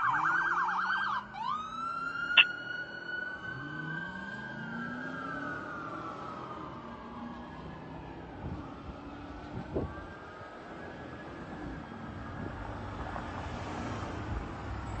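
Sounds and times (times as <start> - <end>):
emergency vehicle siren wailing: 0.0 - 15.0
rumble of engines and traffic: 0.0 - 15.0.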